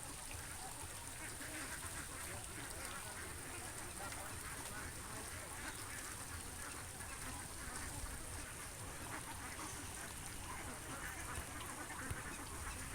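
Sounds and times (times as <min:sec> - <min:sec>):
ducks quacking: 0:00.7 - 0:12.9.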